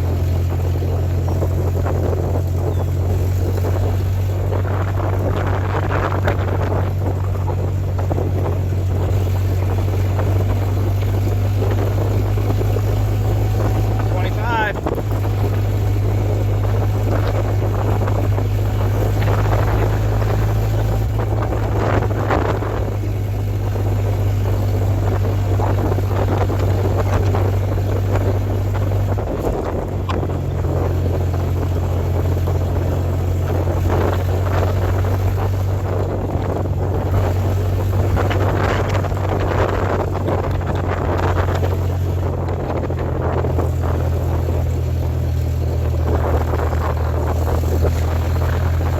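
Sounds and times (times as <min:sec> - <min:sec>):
car engine droning: 0:00.0 - 0:48.9
wind buffeting microphone: 0:00.0 - 0:48.9.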